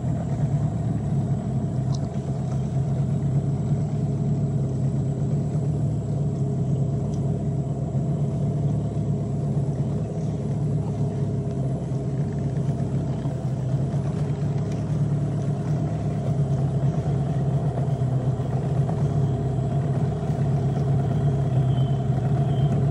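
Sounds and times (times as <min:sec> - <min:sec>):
small boat motor running: 0:00.0 - 0:22.9.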